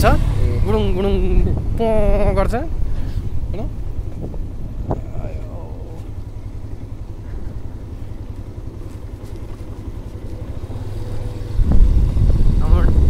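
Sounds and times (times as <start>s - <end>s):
motorcycle engine running: 0.0s - 13.0s
road and wind rumble: 0.0s - 13.0s.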